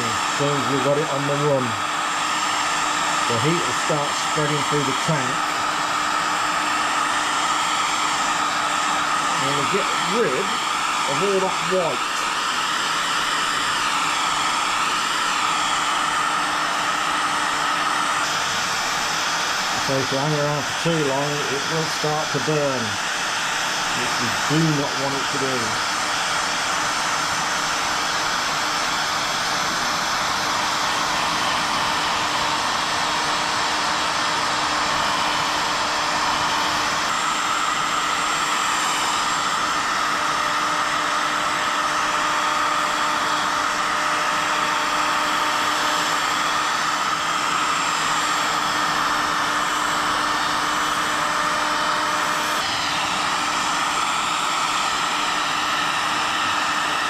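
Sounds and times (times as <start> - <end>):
heat gun fan blowing: 0.0 - 57.0.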